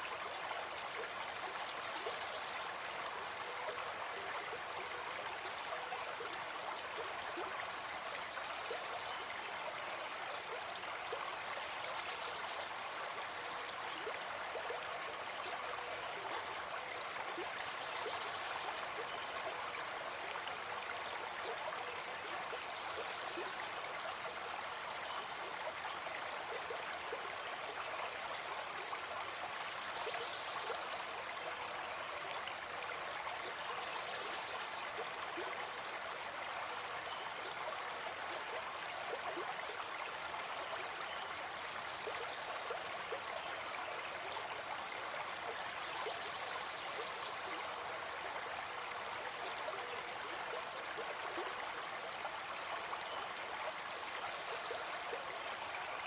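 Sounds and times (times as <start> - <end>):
stream flowing and gurgling: 0.0 - 56.0.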